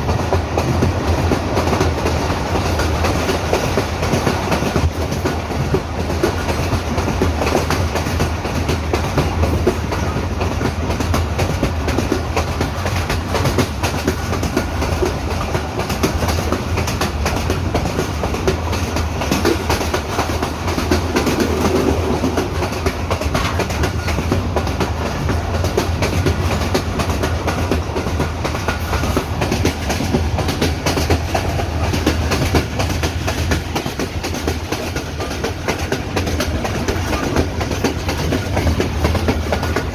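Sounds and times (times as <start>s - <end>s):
passenger train rumbling: 0.0s - 39.9s
wheels clattering over rails: 0.0s - 39.9s.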